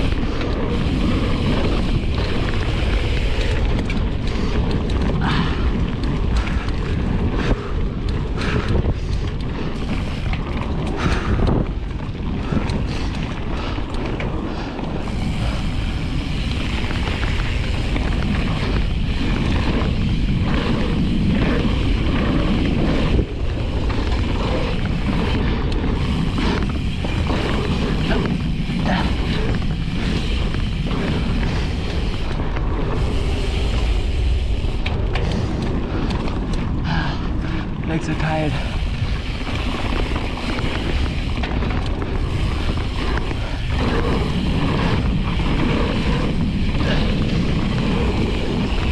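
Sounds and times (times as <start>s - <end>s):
bike knocking and rattling: 0.0s - 48.9s
tyre noise on dirt: 0.0s - 48.9s
wind rushing over microphone: 0.0s - 48.9s.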